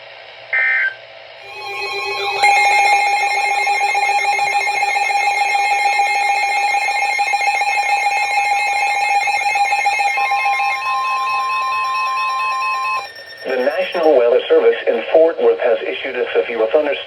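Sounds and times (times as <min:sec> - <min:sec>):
warbling tones: 0:01.4 - 0:15.7
higher steady tone: 0:01.4 - 0:16.5
pulsing electronic alarm tone: 0:01.4 - 0:17.0.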